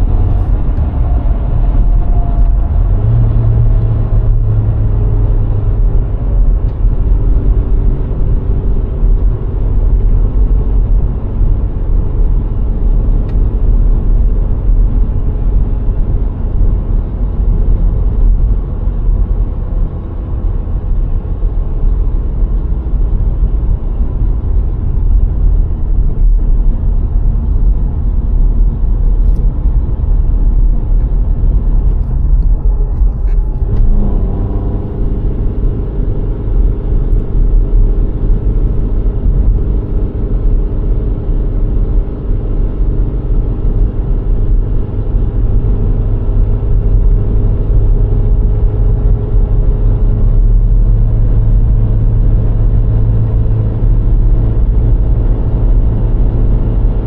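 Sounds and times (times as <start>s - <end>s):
car driving rumble: 0.0s - 57.0s
faint engine hum: 0.0s - 57.0s.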